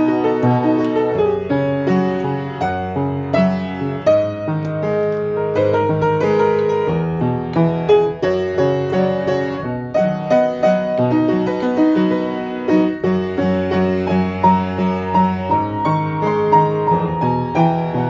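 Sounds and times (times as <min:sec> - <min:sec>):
piano melody over bass notes: 0:00.0 - 0:18.0.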